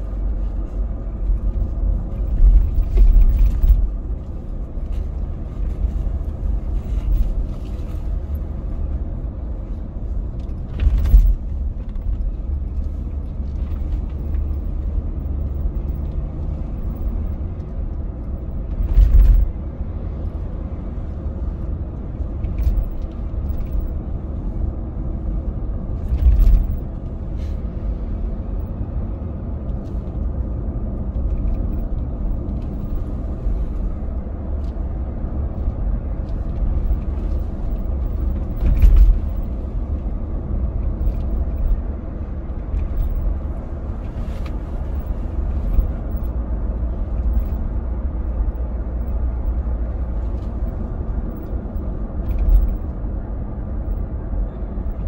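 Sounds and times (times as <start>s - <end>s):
car tyres and engine rumbling: 0.0s - 55.0s.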